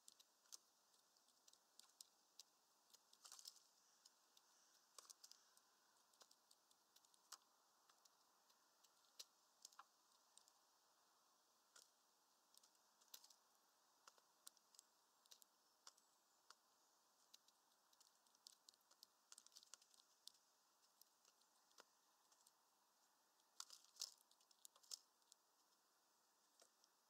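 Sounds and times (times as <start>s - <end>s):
bird pecking at mesh feeder: 0.0s - 10.7s, 11.6s - 22.7s, 23.3s - 25.9s.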